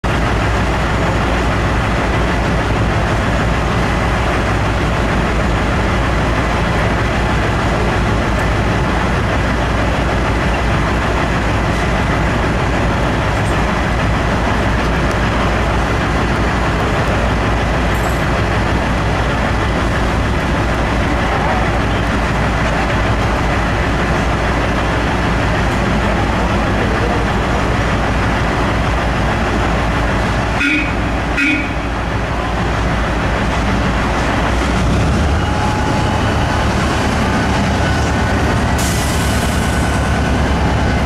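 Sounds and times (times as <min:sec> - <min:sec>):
haul truck engine drone: 0:00.0 - 0:41.0.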